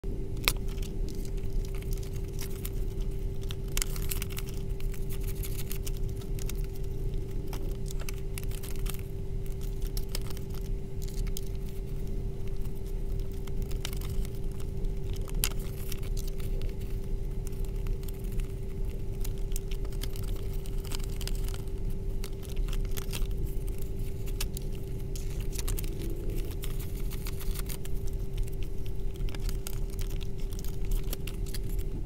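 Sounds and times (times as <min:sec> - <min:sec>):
steady low hum: 0:00.0 - 0:32.0
paper banknotes rustling: 0:00.6 - 0:32.0.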